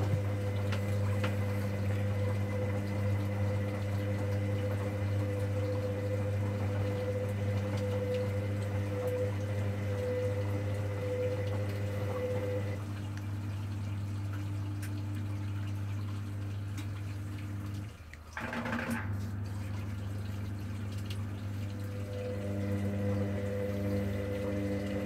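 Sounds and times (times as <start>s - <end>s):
washing machine drum humming: 0.0s - 25.0s
water gushing: 0.0s - 25.0s.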